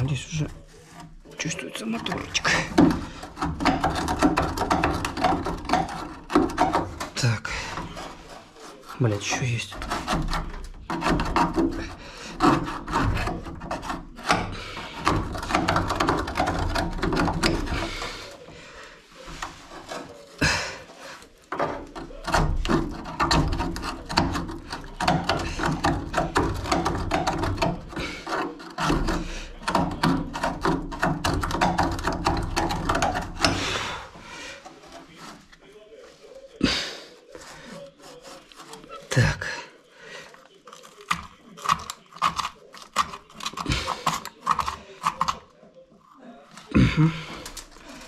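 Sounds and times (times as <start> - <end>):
plastic and metal parts scraping: 0.0 - 48.0.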